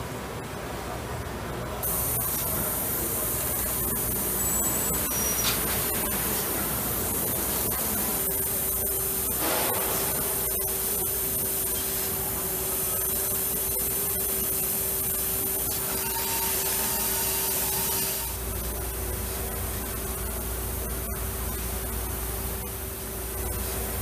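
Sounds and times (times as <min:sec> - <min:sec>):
laser cutting machine hiss: 0:01.8 - 0:24.0.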